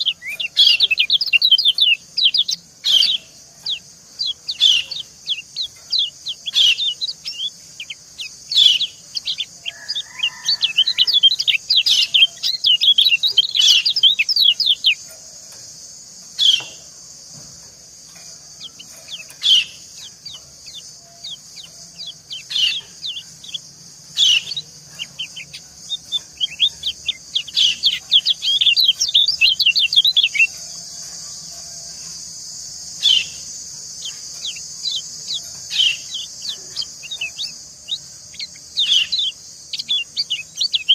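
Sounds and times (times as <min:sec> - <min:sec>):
bird chirps: 0:00.0 - 0:40.9.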